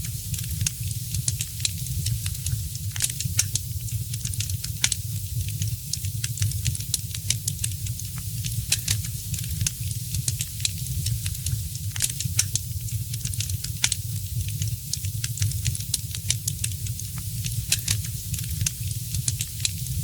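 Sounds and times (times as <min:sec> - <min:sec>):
low steady rumble: 0:00.0 - 0:20.0
wood fire crackling and popping: 0:00.0 - 0:20.0.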